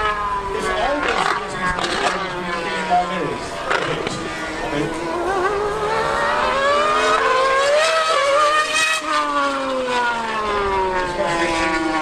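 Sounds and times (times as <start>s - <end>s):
racing car engine revving: 0.0s - 12.0s
superbike engine revving: 0.0s - 12.0s.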